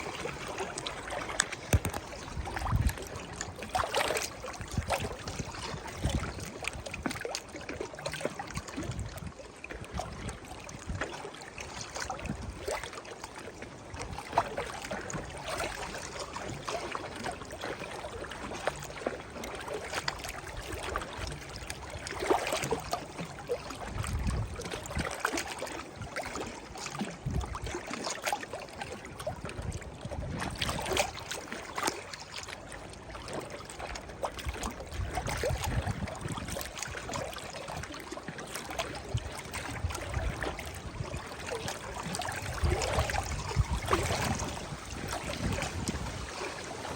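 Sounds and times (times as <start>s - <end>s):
water lapping and splashing: 0.0s - 46.9s.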